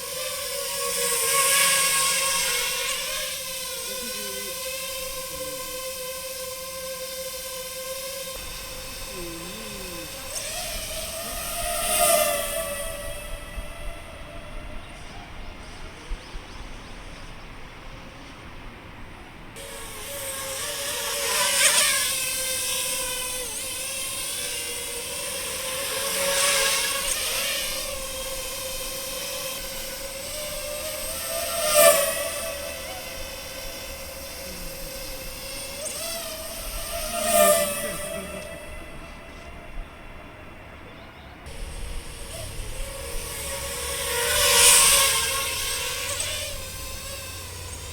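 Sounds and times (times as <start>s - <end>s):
drone propellers whining: 0.0s - 15.8s, 19.6s - 47.9s.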